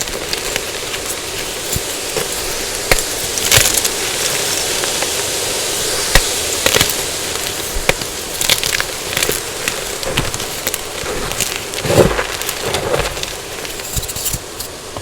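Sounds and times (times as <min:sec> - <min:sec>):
chalk crunching and crackling: 0:00.0 - 0:14.8
steady hiss: 0:00.0 - 0:15.0.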